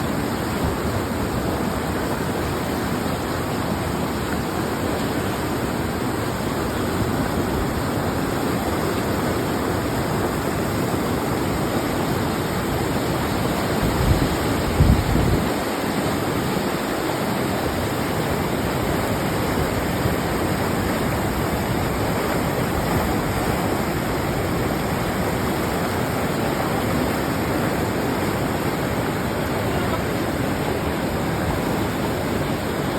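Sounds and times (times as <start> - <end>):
river rushing: 0.0 - 32.9.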